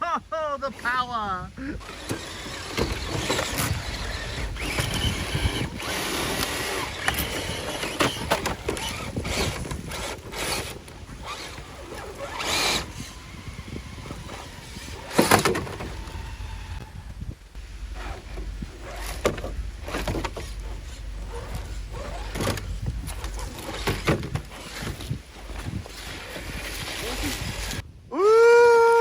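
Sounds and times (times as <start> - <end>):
tyres crunching and scraping: 0.2 - 27.8
toy truck motor whine: 1.6 - 27.8.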